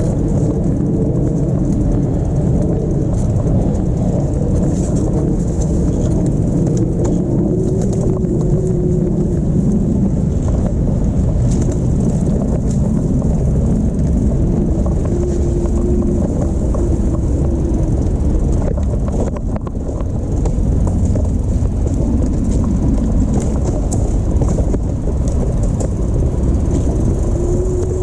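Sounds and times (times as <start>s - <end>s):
wind and tyres rumbling: 0.0s - 28.0s.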